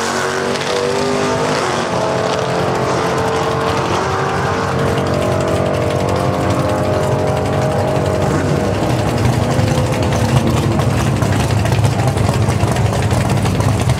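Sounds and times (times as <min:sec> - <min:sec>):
deep engine rumble: 0:00.0 - 0:13.9
drag racing car engines running: 0:00.0 - 0:13.9.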